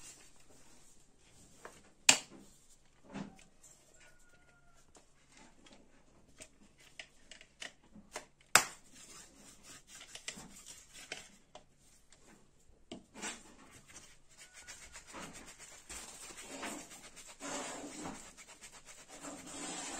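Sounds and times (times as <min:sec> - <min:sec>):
light scraping and rubbing: 0:00.0 - 0:07.0, 0:08.8 - 0:12.5, 0:13.1 - 0:19.9.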